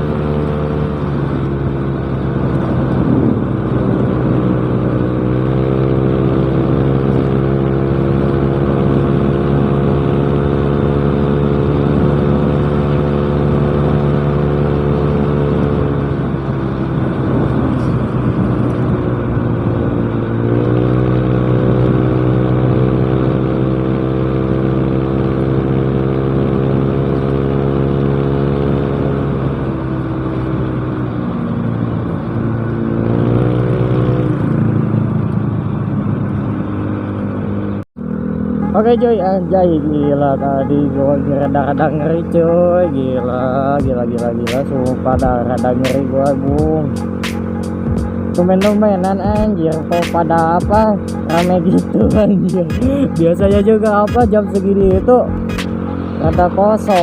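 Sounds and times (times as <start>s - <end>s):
scooter engine revving: 0.0s - 57.0s.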